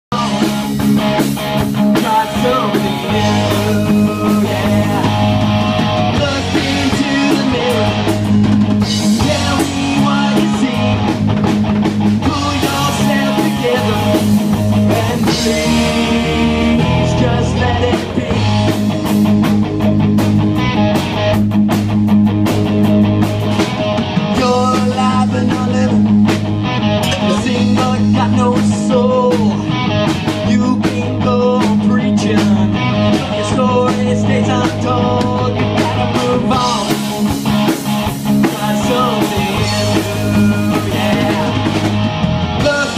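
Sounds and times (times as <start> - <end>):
drum kit: 0.1 - 42.9
electric guitars: 0.1 - 42.9.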